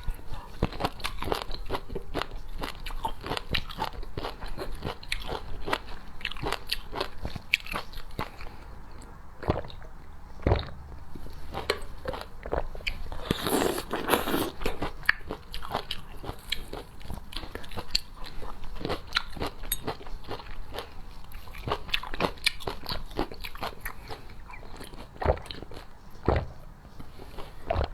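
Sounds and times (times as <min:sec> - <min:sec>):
person eating crunchy food: 0:00.0 - 0:27.9.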